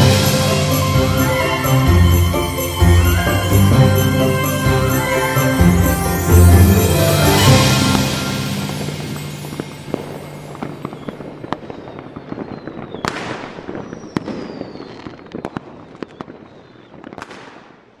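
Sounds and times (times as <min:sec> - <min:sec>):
falling firework whistle: 0:00.0 - 0:17.8
fireworks bangs and crackling: 0:00.0 - 0:18.0.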